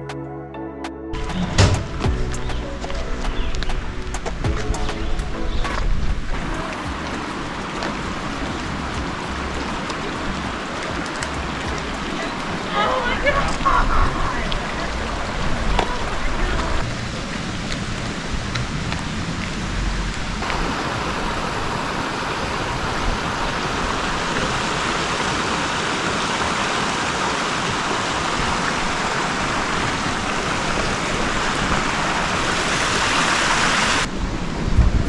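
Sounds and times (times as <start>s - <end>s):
waterfall rushing: 1.2s - 19.7s, 20.4s - 34.1s.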